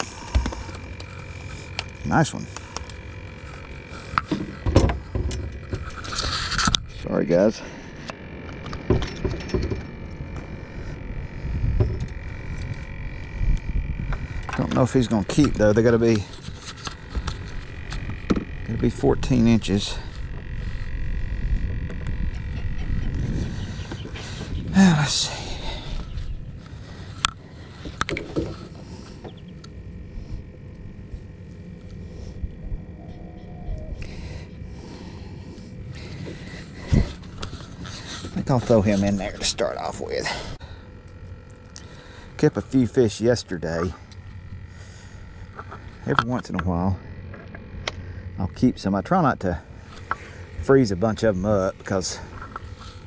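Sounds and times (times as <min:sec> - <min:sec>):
low steady rumble: 0:00.0 - 0:53.0.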